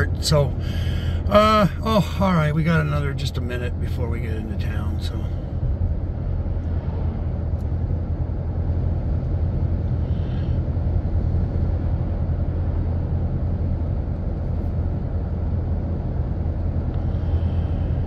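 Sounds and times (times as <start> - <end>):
road and engine drone in cab: 0.0 - 18.0.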